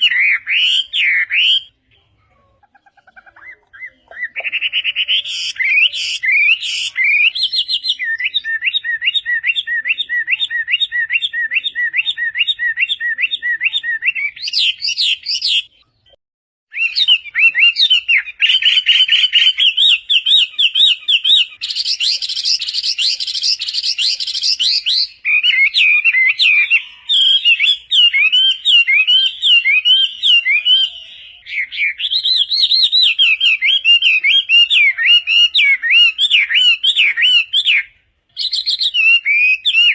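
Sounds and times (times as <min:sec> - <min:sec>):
bird singing whistles: 0:03.7 - 0:15.7, 0:16.7 - 0:39.9.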